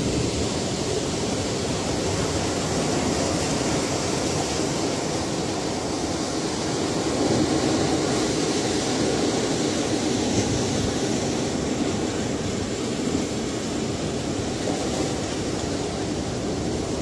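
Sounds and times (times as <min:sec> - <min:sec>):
ocean waves rushing: 0:00.0 - 0:17.0.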